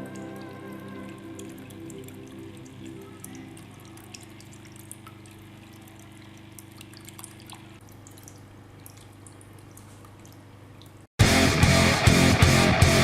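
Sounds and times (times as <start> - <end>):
low pump hum: 0.0 - 11.1
water trickling and dripping: 0.0 - 11.1.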